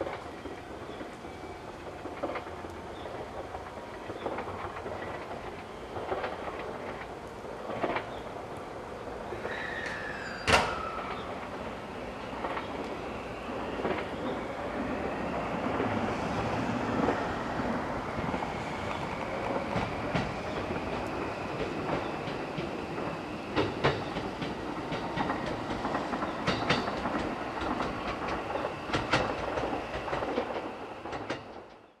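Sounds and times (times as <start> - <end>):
train wheels clicking over rail joints: 0.0 - 32.0.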